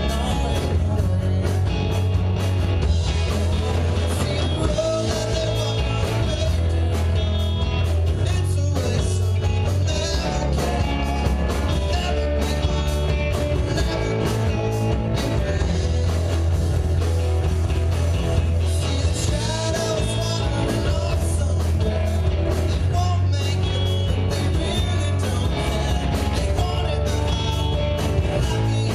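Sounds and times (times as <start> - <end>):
live rock band playing: 0.0 - 28.9.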